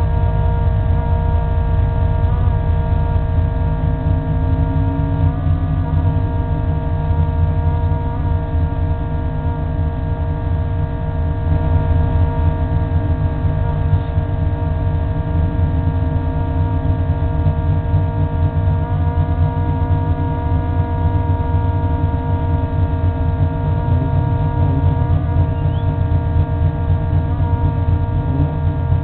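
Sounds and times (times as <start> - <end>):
race car engine idling: 0.0 - 29.0.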